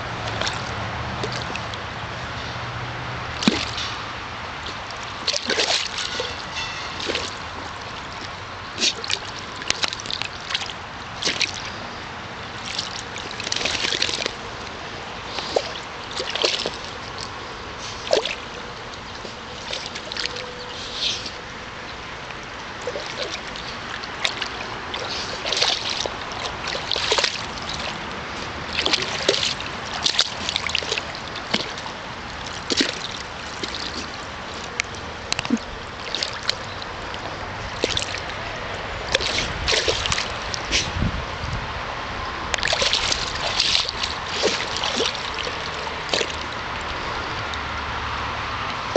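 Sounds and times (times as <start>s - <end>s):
dog splashing in water: 3.3s - 4.0s, 4.6s - 11.8s, 12.5s - 40.9s, 42.6s - 48.2s.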